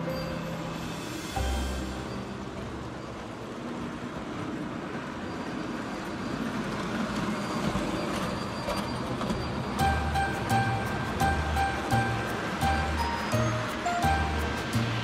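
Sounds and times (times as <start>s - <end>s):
toy train rolling on metal track: 0.0s - 15.0s.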